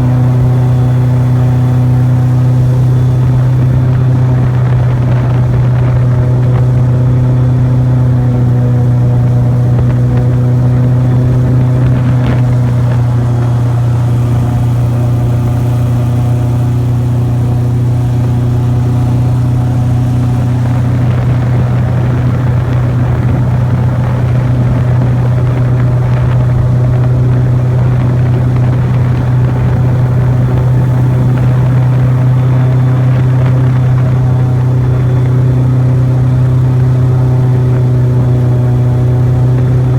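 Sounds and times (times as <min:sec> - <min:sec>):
airboat engine droning: 0:00.0 - 0:39.9.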